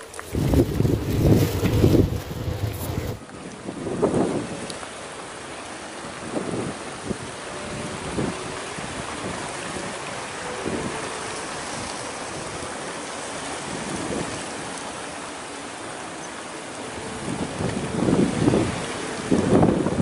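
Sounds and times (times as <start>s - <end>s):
wind buffeting microphone: 0.0s - 4.7s, 6.0s - 14.8s, 16.8s - 20.0s
wind hissing over water: 0.0s - 20.0s.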